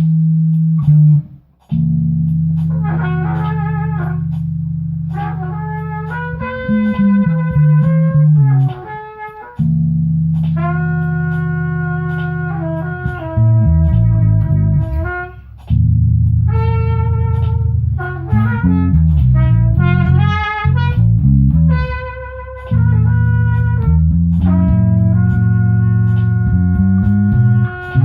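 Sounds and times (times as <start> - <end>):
bass notes: 0.0 - 28.0
guitar melody: 0.0 - 28.0.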